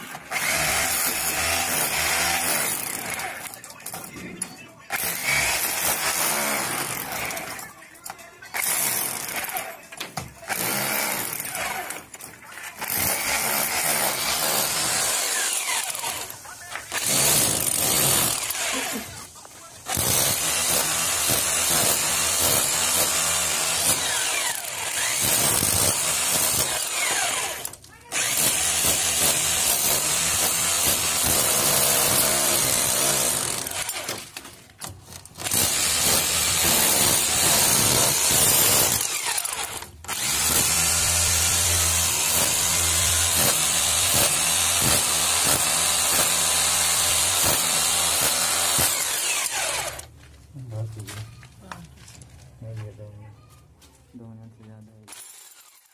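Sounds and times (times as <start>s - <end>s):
rotary hammer drill chiselling brick: 0.0s - 3.9s, 4.9s - 7.7s, 8.5s - 9.8s, 10.4s - 12.2s, 12.8s - 19.1s, 19.8s - 50.1s, 55.1s - 55.9s.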